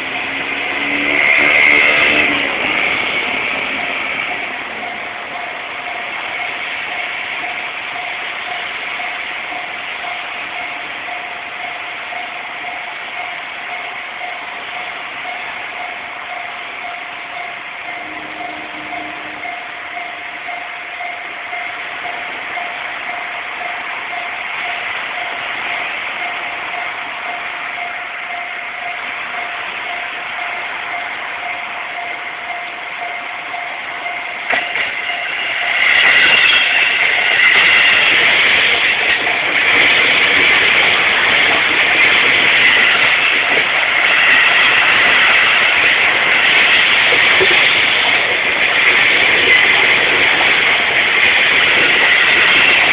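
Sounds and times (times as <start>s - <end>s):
railroad crossing bell dinging: 0.0s - 52.9s
rush of noise: 0.0s - 52.9s
street noise: 0.0s - 52.9s.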